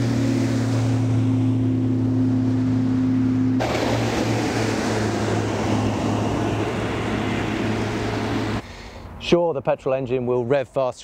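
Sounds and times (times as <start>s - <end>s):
boat outboard engine drone: 0.0s - 9.0s
boat wake hissing and spray: 0.0s - 9.4s.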